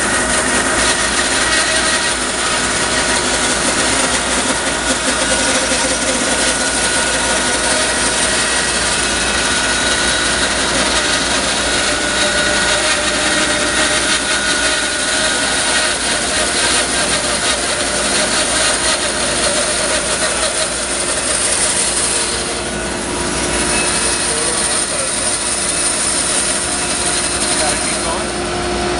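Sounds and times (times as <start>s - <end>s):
bandsaw blade cutting log: 0.0s - 28.9s
bandsaw motor hum: 0.0s - 28.9s.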